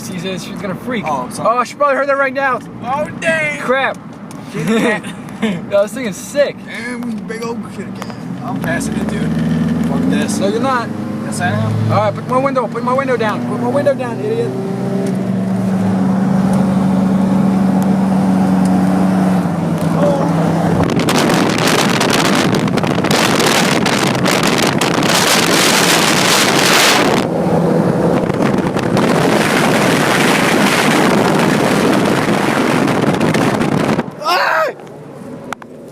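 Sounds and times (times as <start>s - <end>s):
car engine humming: 0.0s - 35.9s
wind noise from open car window: 0.0s - 35.9s.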